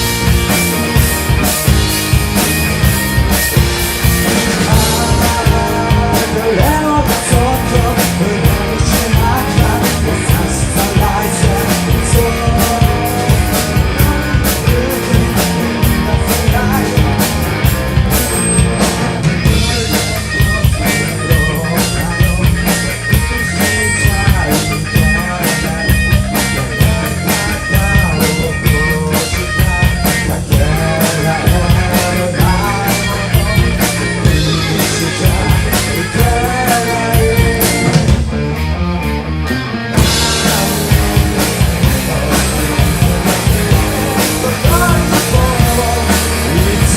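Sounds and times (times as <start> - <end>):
drum kit: 0.0 - 46.9
electric guitar: 0.0 - 46.9.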